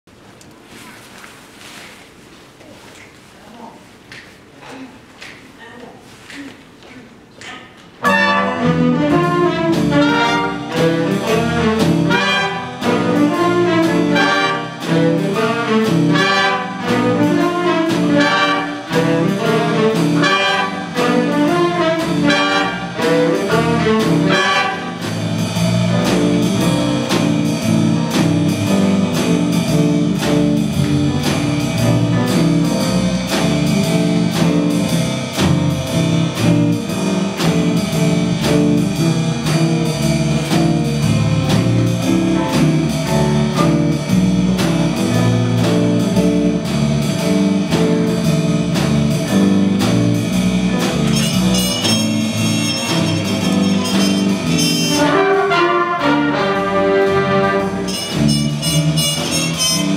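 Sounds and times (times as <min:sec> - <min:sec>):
jazz big band playing: 0:08.0 - 0:59.9.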